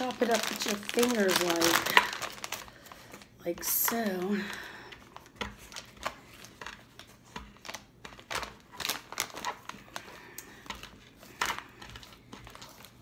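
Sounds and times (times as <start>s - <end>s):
foil chip bag crinkling: 0.0s - 13.0s.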